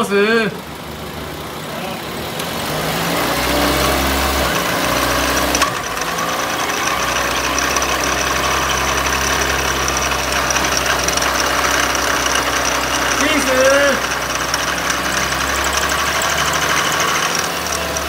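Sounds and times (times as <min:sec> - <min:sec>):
car driving drone: 0:00.6 - 0:18.0.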